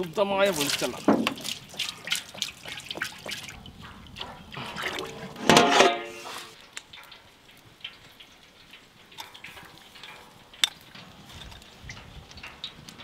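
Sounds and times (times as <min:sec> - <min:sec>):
oil pouring and glugging: 0:00.0 - 0:12.9.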